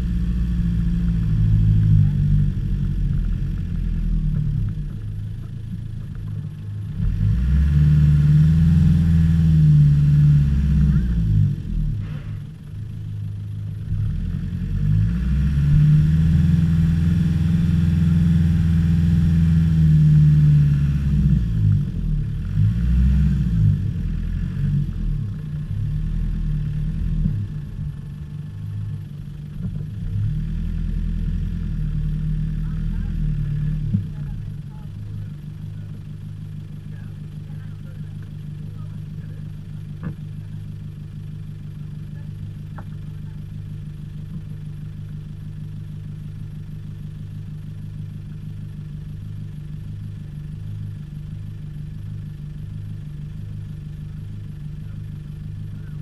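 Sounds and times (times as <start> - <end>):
engine revving off-road: 0.0 - 12.8, 13.6 - 47.9, 53.3 - 56.0.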